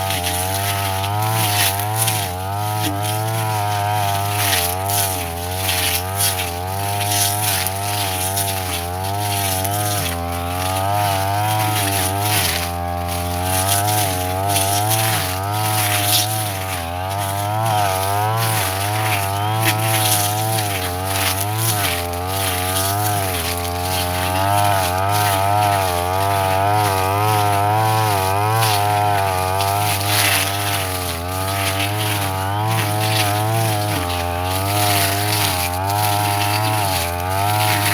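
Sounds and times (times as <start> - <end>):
brush cutter engine cutting grass: 0.0 - 37.9.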